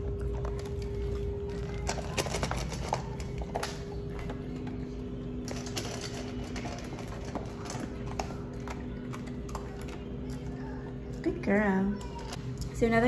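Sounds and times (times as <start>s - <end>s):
dog crunching kibble: 0.0s - 12.8s.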